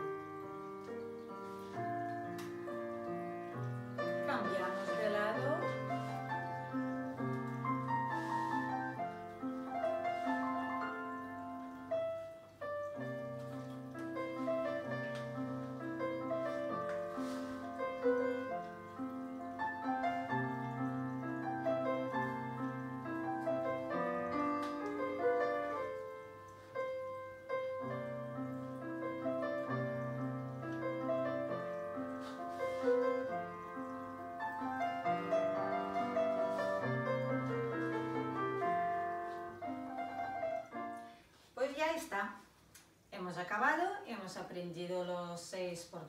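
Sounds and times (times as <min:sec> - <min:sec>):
solo piano playing: 0:00.0 - 0:41.3.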